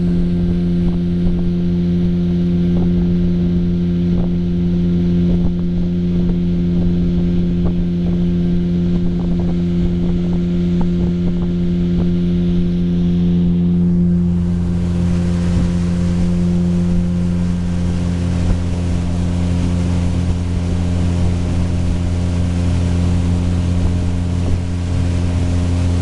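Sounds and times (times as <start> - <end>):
boat motor running: 0.0 - 26.0.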